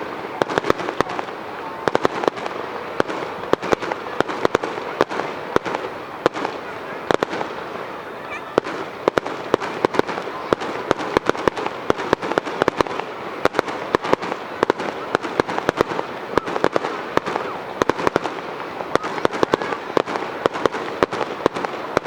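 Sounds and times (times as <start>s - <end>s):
fireworks bangs and pops: 0.0s - 22.0s
fireworks crackling: 0.0s - 22.0s.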